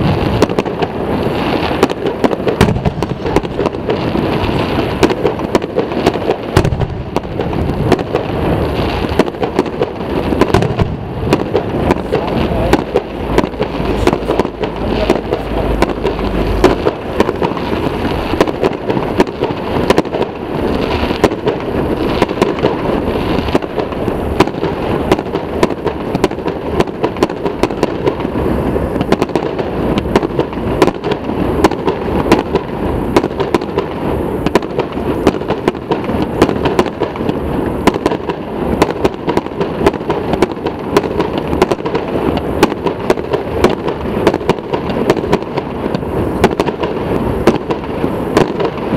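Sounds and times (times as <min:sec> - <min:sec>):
fireworks cracking and banging: 0:00.0 - 0:48.9.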